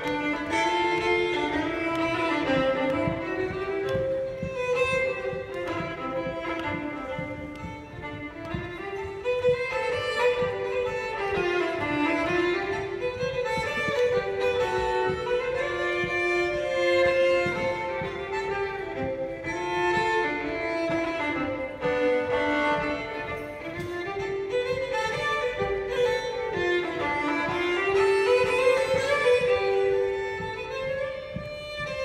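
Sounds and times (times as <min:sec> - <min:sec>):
fiddle playing dance tune: 0:00.0 - 0:32.0.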